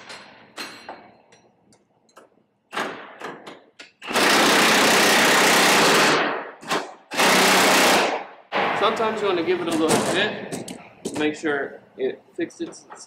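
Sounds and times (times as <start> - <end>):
impact wrench hammering: 0.0 - 1.5, 2.1 - 11.3.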